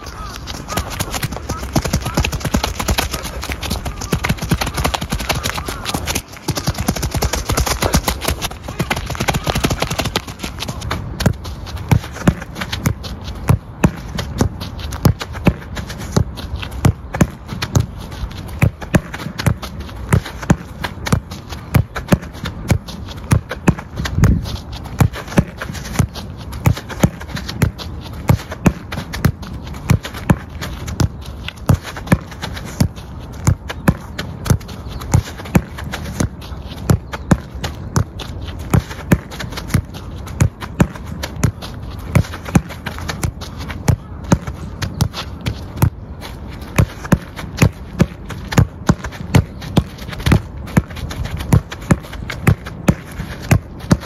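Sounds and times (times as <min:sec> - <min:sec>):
light footsteps: 0:00.0 - 0:54.0.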